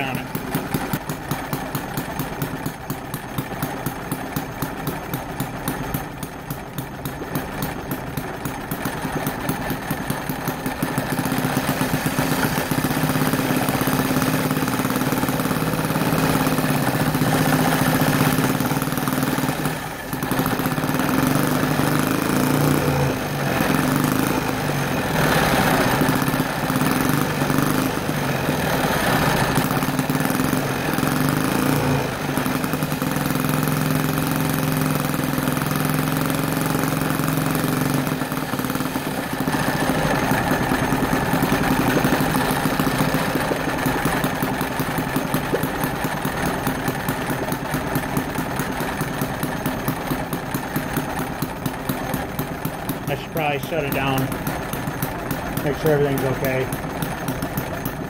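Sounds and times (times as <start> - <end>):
small engine running: 0.0 - 58.0
wood braking flywheel: 0.0 - 58.0.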